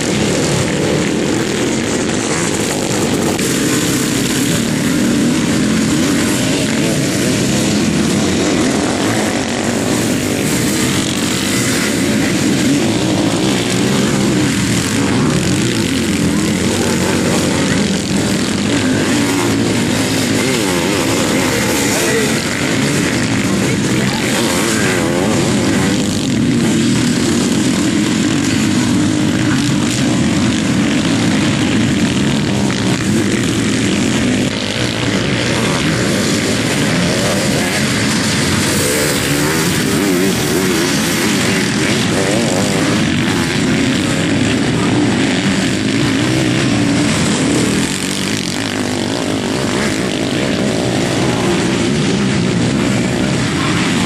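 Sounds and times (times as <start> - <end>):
motocross engines revving: 0.0 - 54.0.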